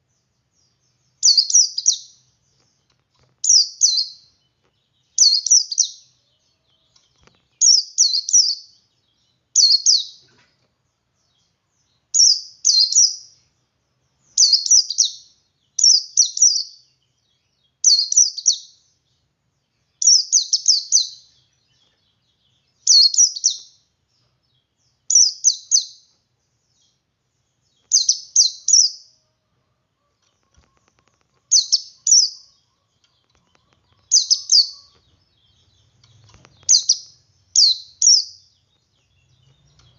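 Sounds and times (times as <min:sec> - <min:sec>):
bird singing high rapid chirps: 0:00.0 - 0:29.2, 0:30.4 - 0:39.9.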